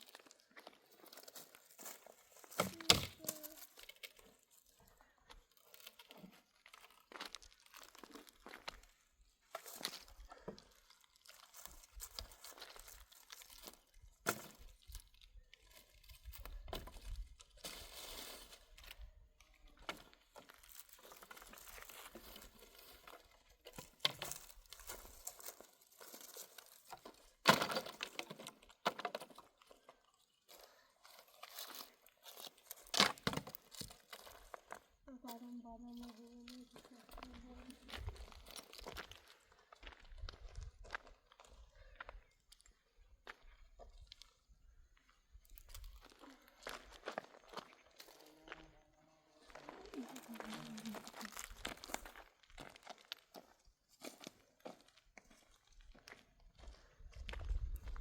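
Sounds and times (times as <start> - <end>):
rustling and crinkling: 0.0 - 42.1, 49.5 - 56.1.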